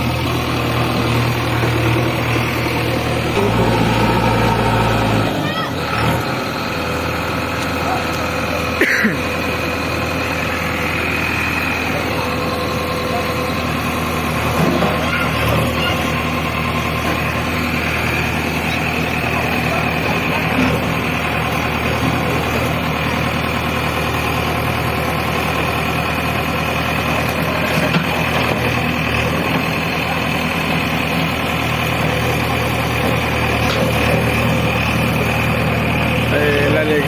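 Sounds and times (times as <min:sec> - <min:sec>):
diesel engine running steadily: 0:00.0 - 0:37.0.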